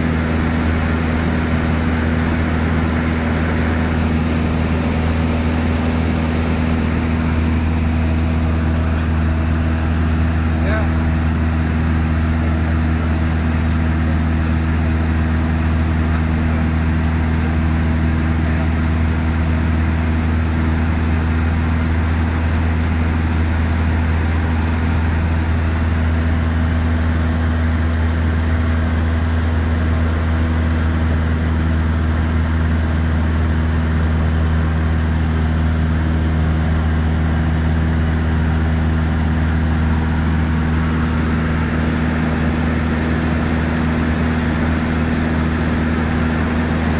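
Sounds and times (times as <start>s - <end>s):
light aircraft engine droning: 0.0s - 46.9s.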